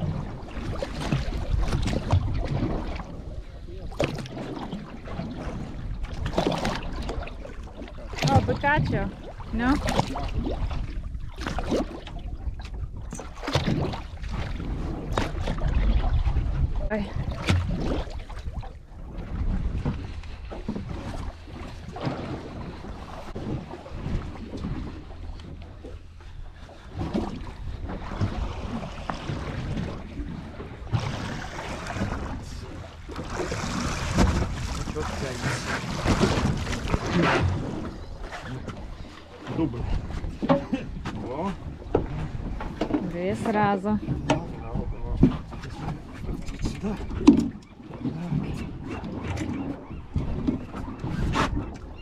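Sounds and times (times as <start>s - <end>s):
boat rumble: 0.0s - 52.0s
wind buffeting microphone: 0.0s - 52.0s.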